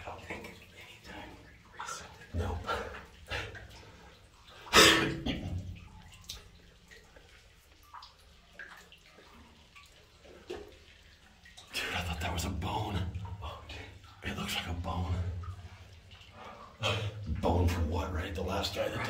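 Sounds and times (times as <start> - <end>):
person wading through water: 0.0 - 17.8
water dripping: 0.0 - 19.0.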